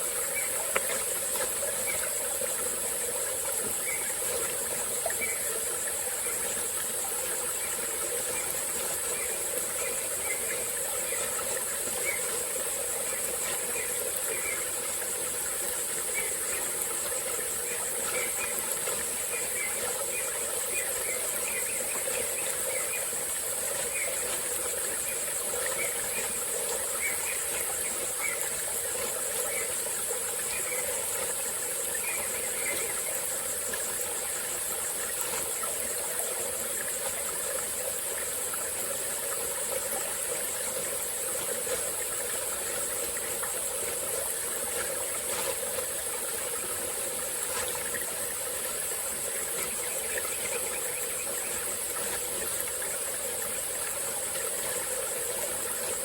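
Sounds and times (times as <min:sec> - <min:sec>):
small stream running: 0:00.0 - 0:56.0.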